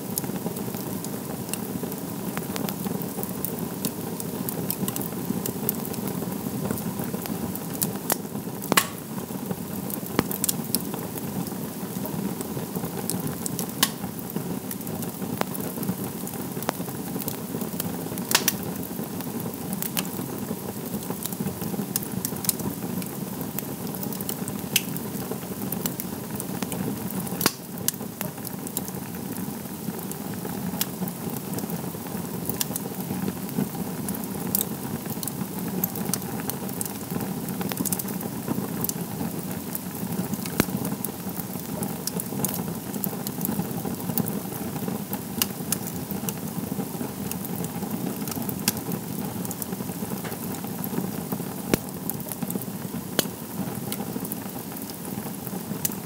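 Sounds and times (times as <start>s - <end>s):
fire crackling: 0.0s - 56.0s
fire popping: 0.1s - 56.0s.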